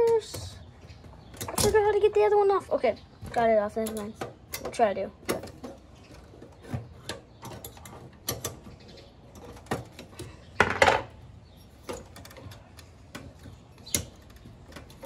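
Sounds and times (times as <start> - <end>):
plastic and metal parts rattling: 1.2 - 2.4, 3.2 - 15.0.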